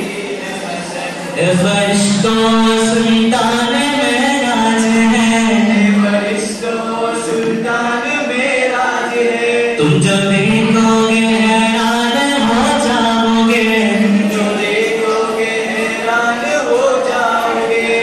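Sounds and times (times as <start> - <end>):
boy singing into microphone: 0.0 - 18.0.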